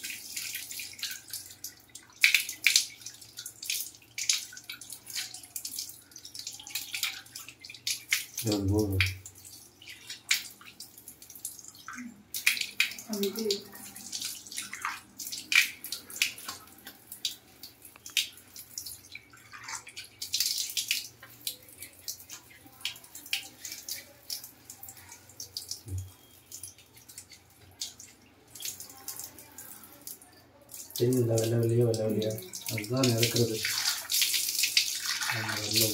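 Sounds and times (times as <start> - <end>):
water dripping onto tiles: 0.0 - 35.9.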